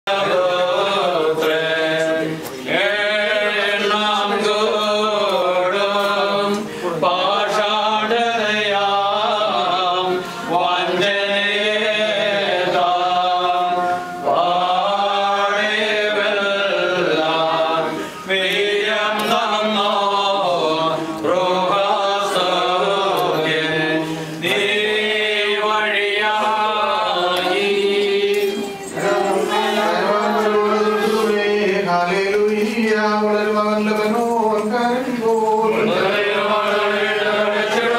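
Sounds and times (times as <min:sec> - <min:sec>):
men chanting a hymn: 0:00.1 - 0:37.9.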